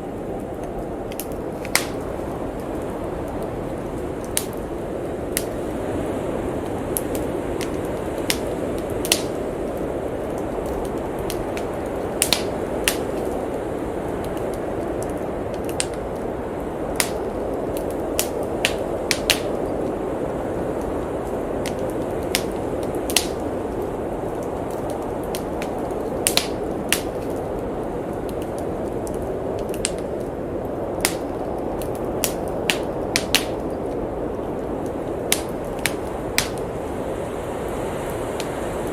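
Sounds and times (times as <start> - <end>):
blizzard wind rushing: 0.0 - 38.9
wood fire crackling and popping: 0.0 - 38.9.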